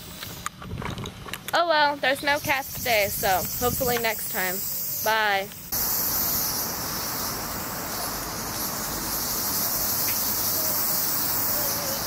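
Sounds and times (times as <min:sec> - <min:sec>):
cicadas buzzing: 0:01.8 - 0:12.0.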